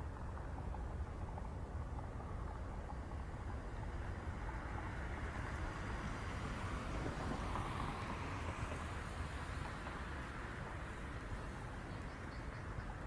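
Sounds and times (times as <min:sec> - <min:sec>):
low background rumble with hiss: 0:00.0 - 0:13.0.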